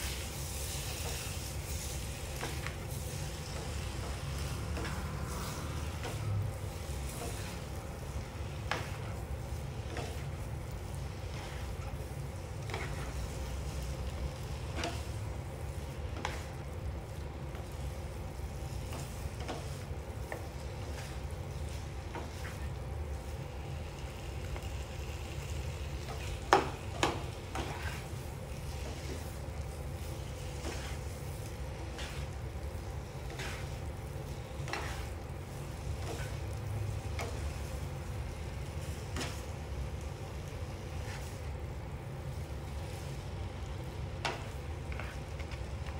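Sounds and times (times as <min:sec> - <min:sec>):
food sizzling in pan: 0:00.0 - 0:45.9.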